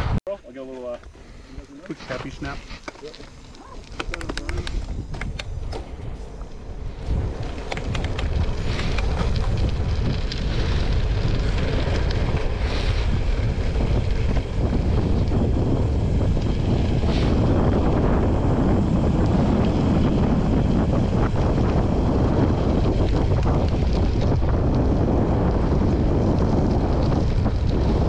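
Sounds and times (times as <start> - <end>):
tyres rolling on gravel: 0.6 - 28.0
wind buffeting microphone: 1.2 - 28.0.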